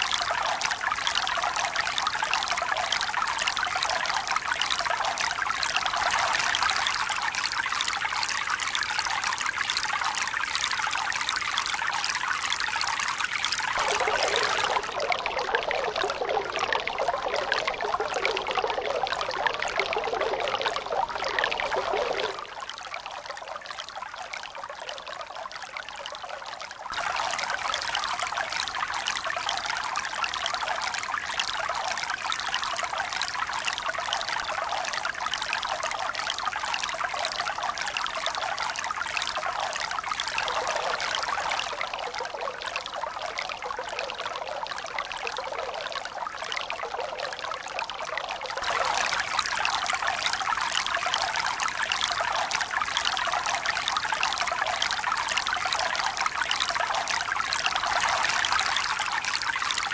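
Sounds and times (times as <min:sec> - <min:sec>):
running water trickling and pouring: 0:00.0 - 0:59.9.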